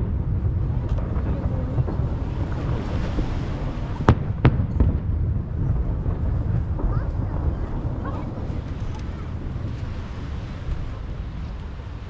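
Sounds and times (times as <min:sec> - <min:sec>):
sharp firework bangs: 0:00.0 - 0:11.1
fireworks booming: 0:00.0 - 0:12.0.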